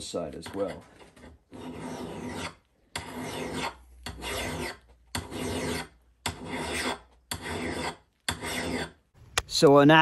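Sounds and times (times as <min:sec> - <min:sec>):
hand file rasping on steel: 0:00.0 - 0:09.1.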